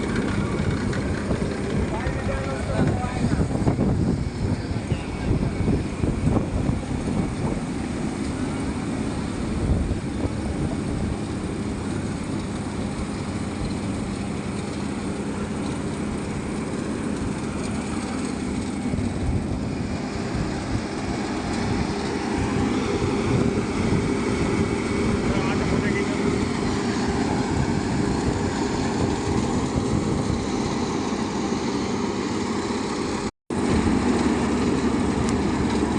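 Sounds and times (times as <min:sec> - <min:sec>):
diesel engine running under load: 0:00.0 - 0:35.9.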